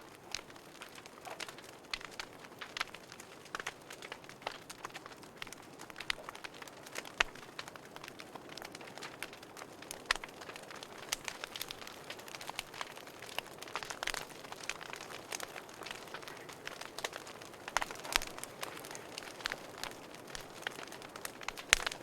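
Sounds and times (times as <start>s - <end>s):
soft steady hiss: 0.0s - 22.0s
wood fire crackling: 0.0s - 22.0s.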